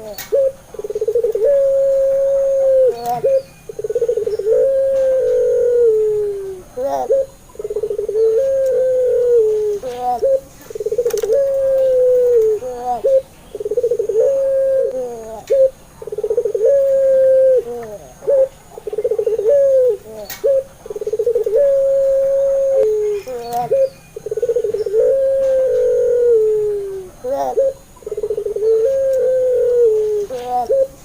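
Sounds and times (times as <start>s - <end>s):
dove cooing: 0.0s - 31.0s.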